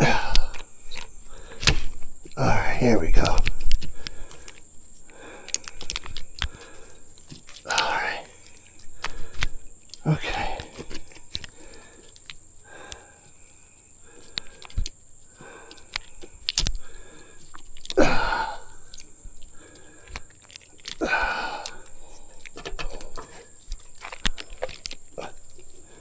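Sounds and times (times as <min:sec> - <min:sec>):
strap and metal stand clicks: 0:00.0 - 0:02.4, 0:03.1 - 0:13.0, 0:14.2 - 0:15.0, 0:15.6 - 0:26.0
man breathing hard: 0:00.0 - 0:26.0.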